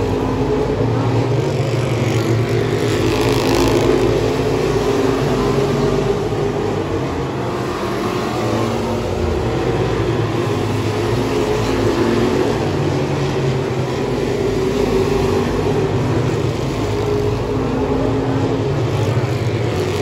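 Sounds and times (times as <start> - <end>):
race car engines: 0.0 - 20.0.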